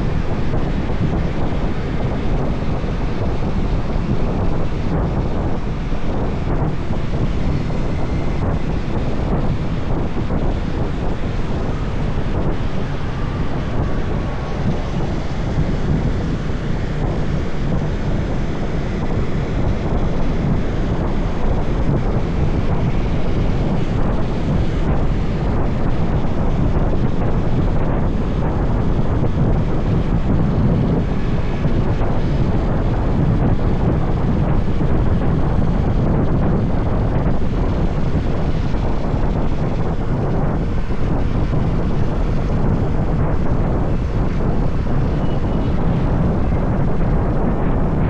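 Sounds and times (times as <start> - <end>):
motorbike and road noise: 0.0 - 48.0
wind rushing over microphone: 0.0 - 48.0.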